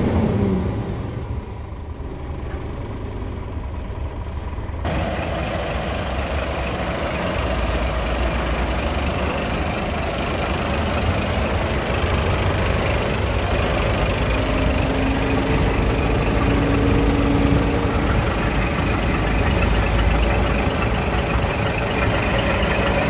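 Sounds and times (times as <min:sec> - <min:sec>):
truck diesel engine idling: 0:00.0 - 0:23.0.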